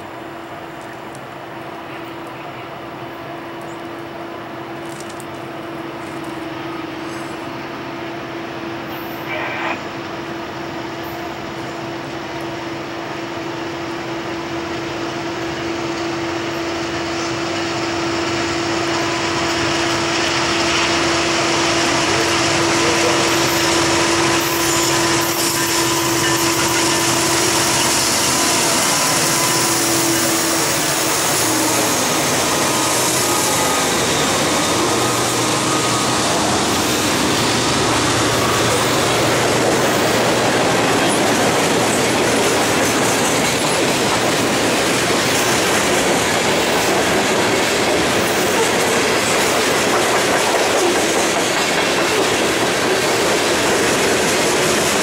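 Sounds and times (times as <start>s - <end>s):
diesel locomotive humming: 0.0s - 55.0s.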